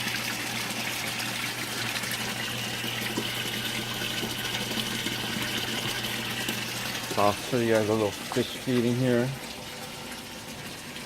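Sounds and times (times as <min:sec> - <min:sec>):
siphon draining: 0:00.0 - 0:11.0.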